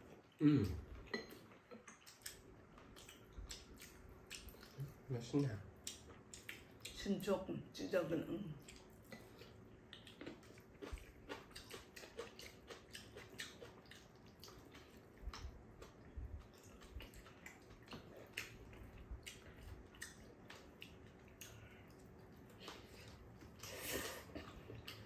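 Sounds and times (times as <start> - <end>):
wet chewing and mouth smacks: 1.4 - 7.0, 8.6 - 25.0.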